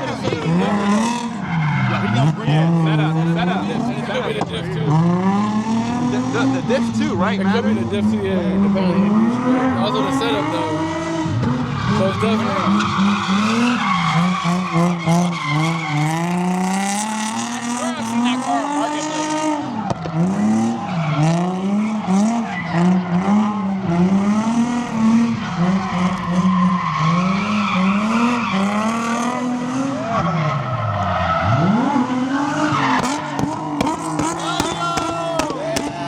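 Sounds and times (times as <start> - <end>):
car engine revving: 0.0 - 36.0
tires squealing: 0.0 - 36.0.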